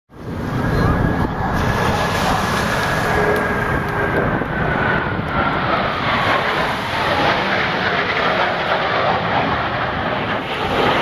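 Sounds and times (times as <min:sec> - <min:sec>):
faint jet whine: 0:00.1 - 0:11.0
jet roar overhead: 0:00.1 - 0:11.0.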